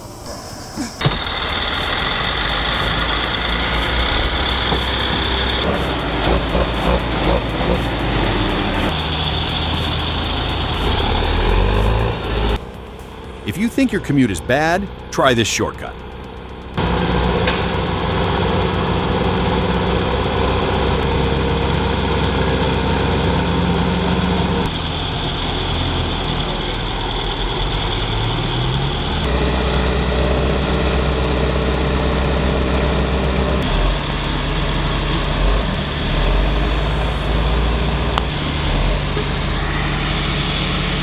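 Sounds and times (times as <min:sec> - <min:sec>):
vehicle engine running: 0:01.0 - 0:41.0.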